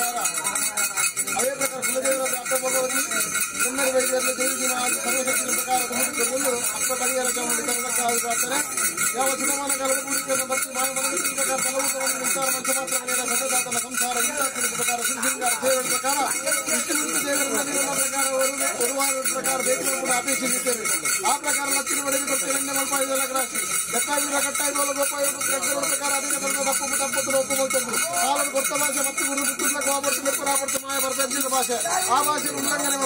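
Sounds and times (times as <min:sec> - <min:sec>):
drums beating fast: 0:00.0 - 0:33.0
small hand cymbals: 0:00.0 - 0:33.0
voices: 0:00.0 - 0:33.0.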